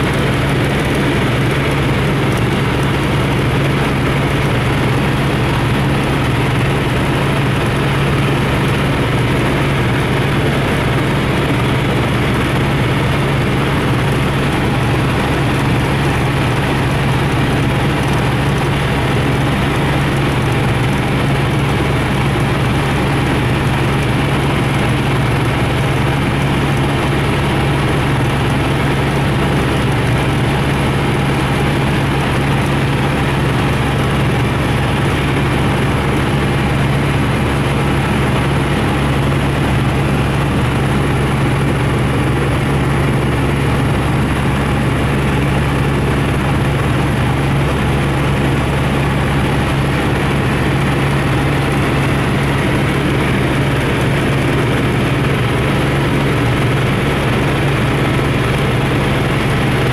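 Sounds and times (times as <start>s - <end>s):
model aircraft motor drone: 0.0s - 59.9s.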